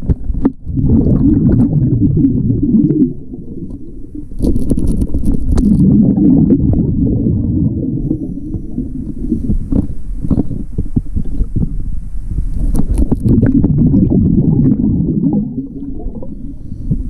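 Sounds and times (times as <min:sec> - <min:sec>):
regulator bubbles underwater: 0:00.0 - 0:17.0.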